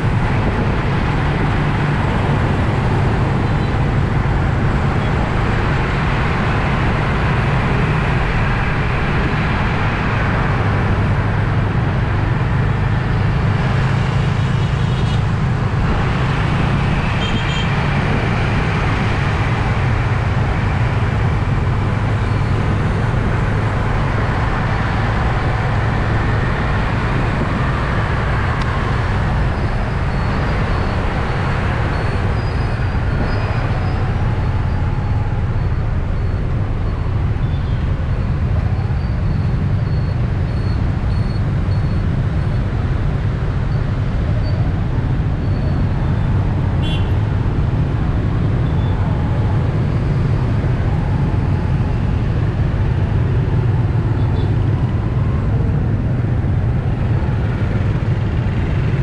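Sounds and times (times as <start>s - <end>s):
motorbike engine hum: 0.0s - 59.0s
wind and road noise: 0.0s - 59.0s.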